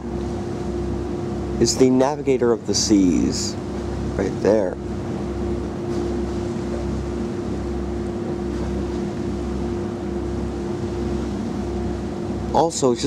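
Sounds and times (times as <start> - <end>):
mechanical hum: 0.0 - 13.0
sea noise: 0.0 - 13.0
wind: 0.0 - 13.0.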